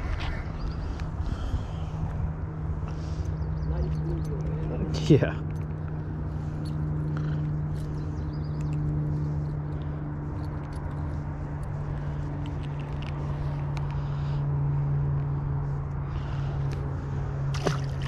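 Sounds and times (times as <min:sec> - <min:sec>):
low motor hum: 0:00.0 - 0:18.0
outdoor background noise: 0:00.0 - 0:18.0.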